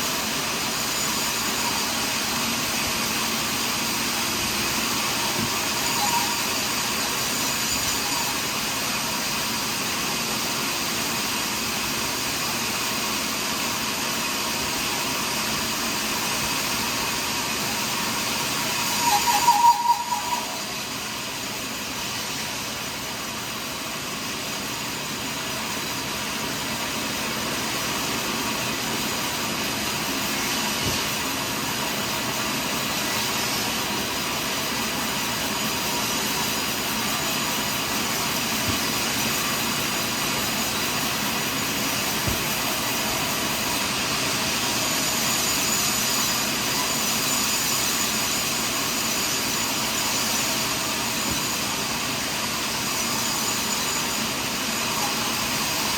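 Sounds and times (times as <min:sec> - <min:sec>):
sawmill cutting log: 0:00.0 - 0:55.9.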